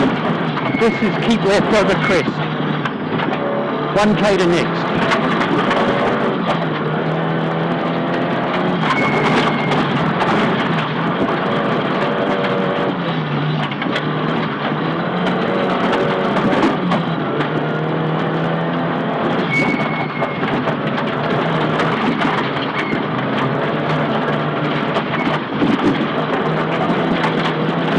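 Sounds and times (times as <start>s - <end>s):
rally car engine revving: 0.0s - 27.9s
road noise: 0.0s - 27.9s.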